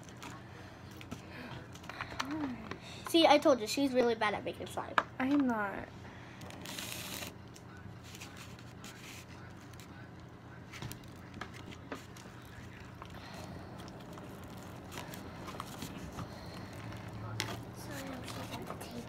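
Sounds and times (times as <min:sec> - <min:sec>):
hands clicking and crinkling supplies: 0:00.0 - 0:03.2, 0:06.4 - 0:19.0
low steady hum: 0:00.0 - 0:19.0.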